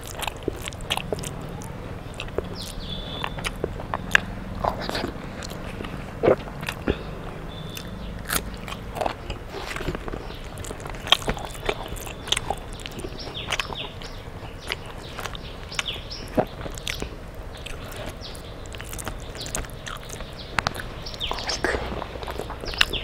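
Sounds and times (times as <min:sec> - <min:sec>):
chewing and crunching food: 0:00.0 - 0:23.0
wet mouth clicks: 0:00.0 - 0:23.0.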